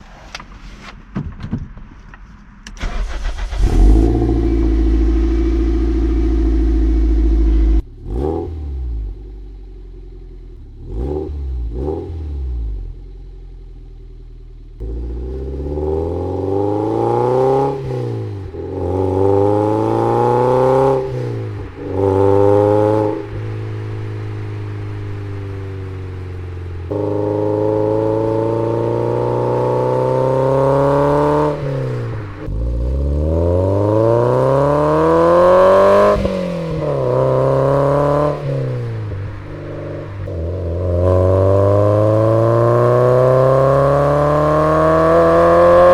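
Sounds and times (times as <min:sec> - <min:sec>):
car engine revving: 0:02.8 - 0:45.9.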